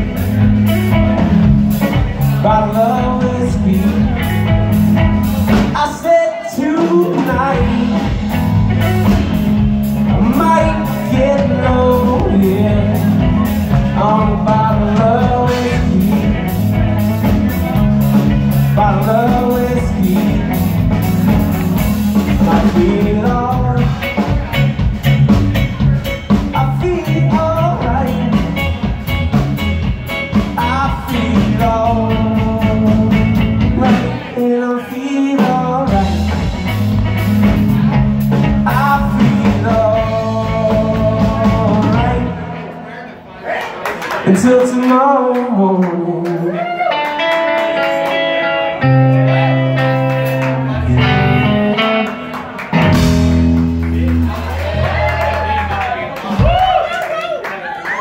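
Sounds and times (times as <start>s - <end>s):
drum kit: 0.0s - 42.4s, 47.0s - 57.0s
bass guitar: 0.0s - 42.8s, 44.3s - 57.0s
electric guitar: 0.0s - 42.8s, 44.4s - 56.8s.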